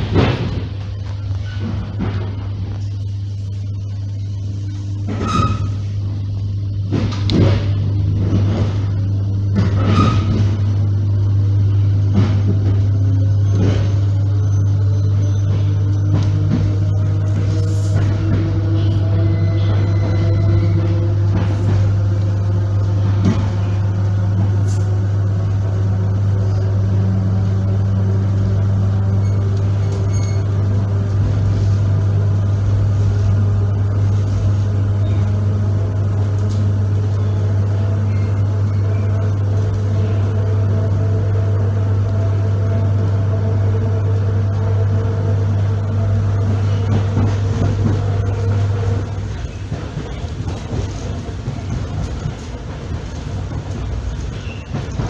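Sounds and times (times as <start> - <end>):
electric train hum: 0.0 - 55.0
rolling rumble: 0.0 - 55.0.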